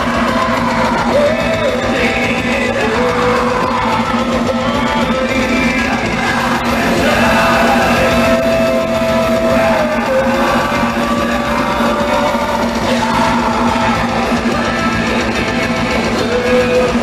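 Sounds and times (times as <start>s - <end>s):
extreme metal band playing live: 0.0s - 17.0s.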